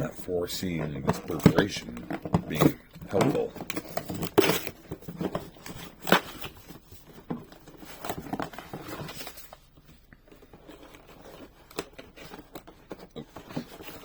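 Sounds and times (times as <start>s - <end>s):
packaging rustling and scraping: 0.0s - 14.0s.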